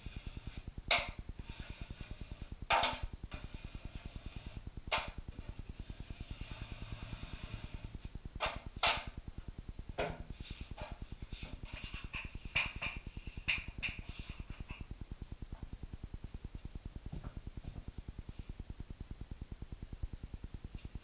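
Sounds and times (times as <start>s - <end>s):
fast low pulsing: 0.0s - 20.8s.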